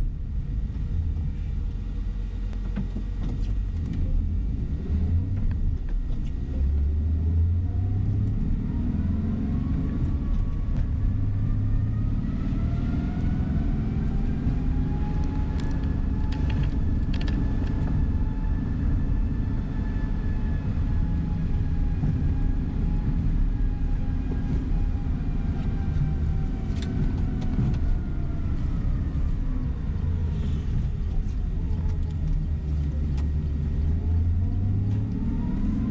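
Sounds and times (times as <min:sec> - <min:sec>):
bus engine and road rumble: 0:00.0 - 0:35.9.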